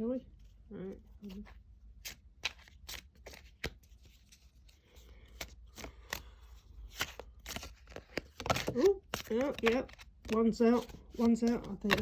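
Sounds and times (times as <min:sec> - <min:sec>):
cards being shuffled: 0:01.2 - 0:12.0.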